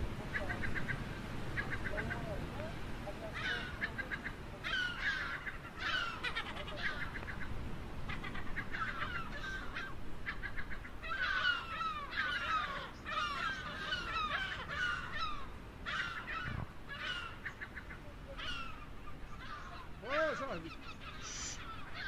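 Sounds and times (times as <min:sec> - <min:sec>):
gulls calling: 0:00.0 - 0:22.0.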